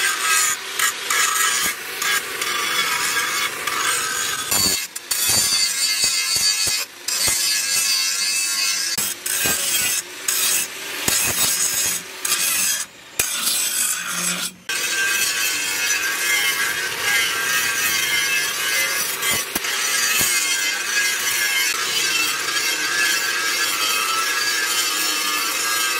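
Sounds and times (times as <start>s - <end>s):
angle grinder grinding steel: 0.0s - 25.9s.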